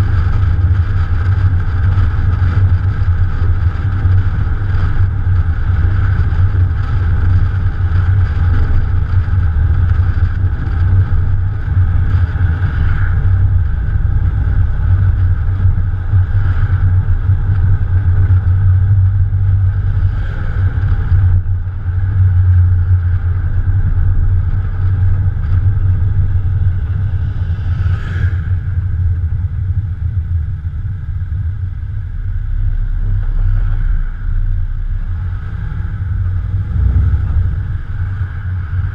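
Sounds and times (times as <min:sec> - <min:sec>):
car engine running: 0:00.0 - 0:38.9
road and air noise: 0:00.0 - 0:38.9.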